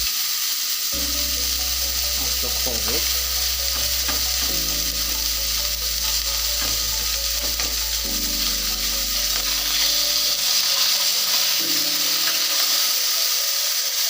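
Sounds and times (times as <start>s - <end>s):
seafood sizzling in hot oil: 0.0s - 14.0s.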